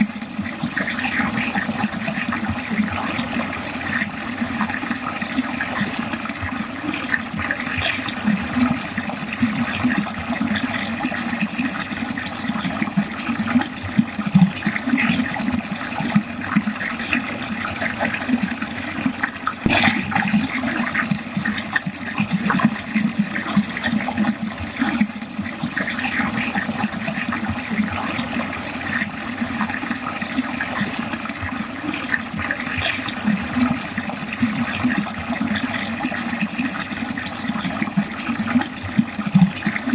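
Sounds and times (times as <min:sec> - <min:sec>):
water gurgling down a drain: 0:00.0 - 0:39.9.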